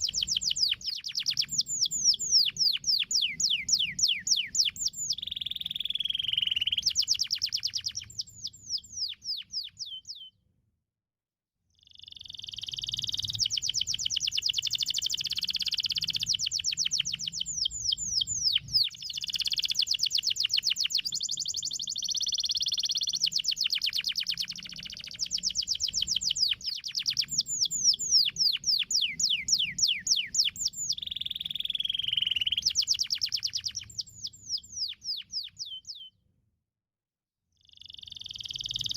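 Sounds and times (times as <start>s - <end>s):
canary singing trills: 0.0s - 10.4s, 11.8s - 36.2s, 37.6s - 38.9s.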